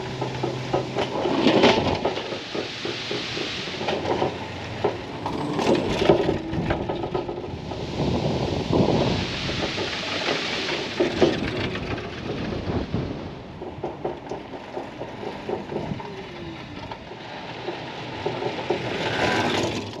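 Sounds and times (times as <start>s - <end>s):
trailer rattles and clicks: 0.0s - 20.0s
tyres rumbling on asphalt: 0.0s - 20.0s.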